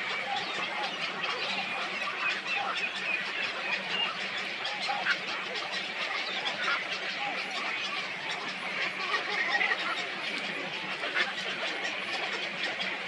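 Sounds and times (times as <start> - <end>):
waterbirds calling and honking: 0.0 - 13.0.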